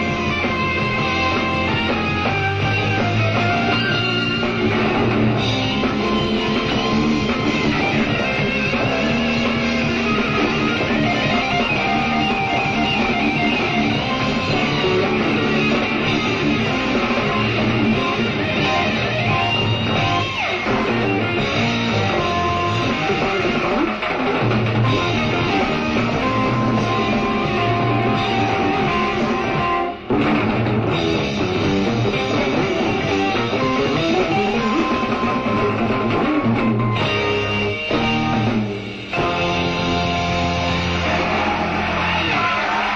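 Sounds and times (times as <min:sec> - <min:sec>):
electric bass: 0:00.0 - 0:42.7
drum kit: 0:00.0 - 0:42.9
electric guitar: 0:00.0 - 0:42.9
keyboards: 0:00.0 - 0:42.9.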